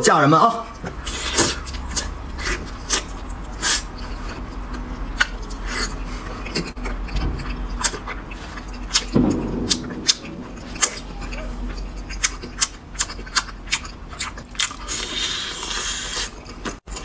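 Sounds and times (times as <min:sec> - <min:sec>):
wet chewing mouth smacks: 0:00.8 - 0:17.0.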